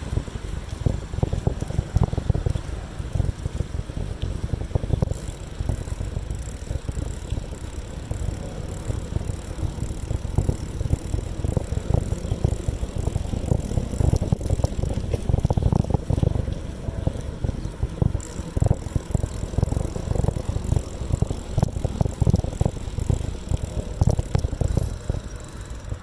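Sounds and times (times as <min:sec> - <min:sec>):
bicycle knocks and rattles: 0:00.0 - 0:26.0
low rumble of bicycle ride: 0:00.0 - 0:26.0
wind buffeting microphone: 0:00.0 - 0:26.0.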